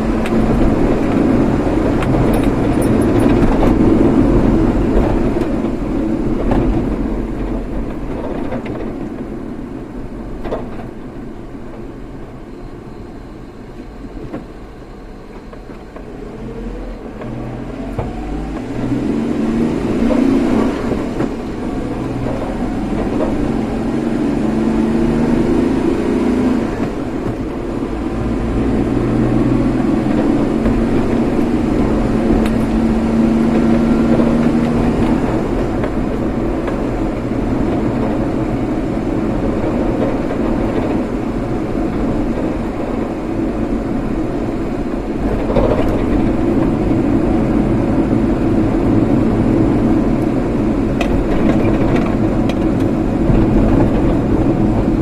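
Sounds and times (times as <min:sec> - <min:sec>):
vehicle engine accelerating: 0:00.0 - 0:09.1, 0:14.8 - 0:55.0
road noise: 0:00.0 - 0:55.0.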